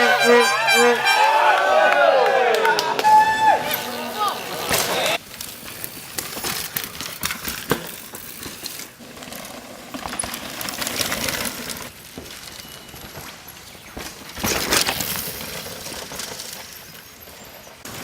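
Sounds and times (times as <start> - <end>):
mountain bike rattling: 3.0 - 18.0.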